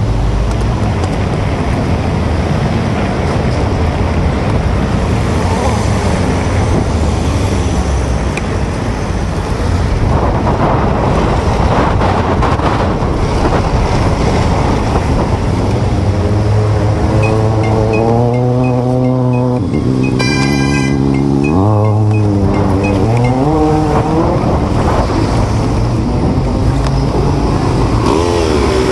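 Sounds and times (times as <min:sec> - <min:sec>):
city traffic noise: 0:00.0 - 0:28.9
wind buffeting microphone: 0:00.4 - 0:17.6, 0:22.1 - 0:28.9.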